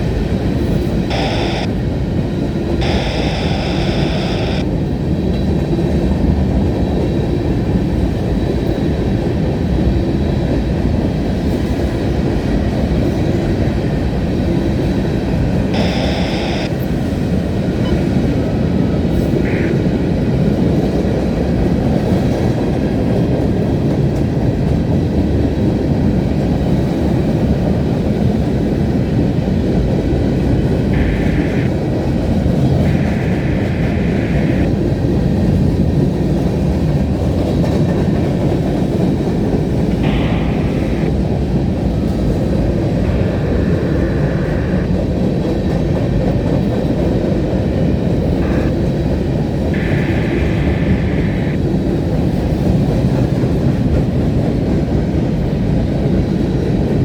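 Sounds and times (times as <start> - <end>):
train wheels rumbling on rail: 4.6 - 15.9, 16.7 - 33.7, 34.6 - 50.0, 51.6 - 57.0.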